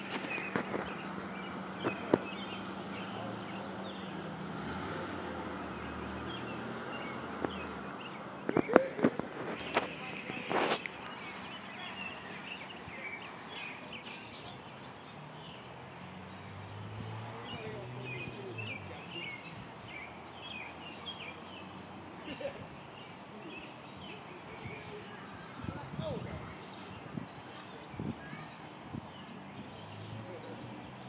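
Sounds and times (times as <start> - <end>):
outdoor background noise: 0.0 - 31.0
small birds chirping: 0.0 - 31.0.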